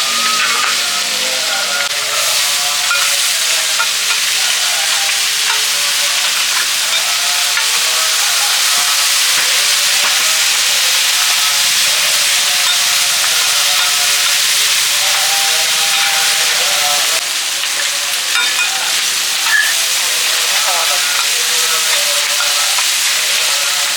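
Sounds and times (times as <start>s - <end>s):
food sizzling in hot oil: 0.0s - 23.9s.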